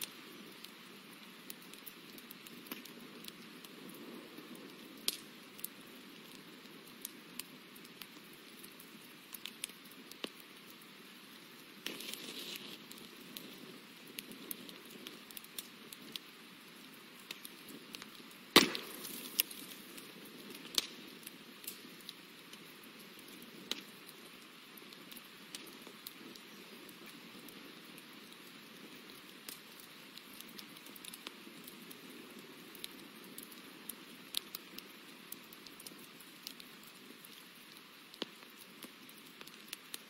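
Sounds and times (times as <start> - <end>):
faint steady hiss: 0.0 - 40.0
rustle: 0.0 - 40.0.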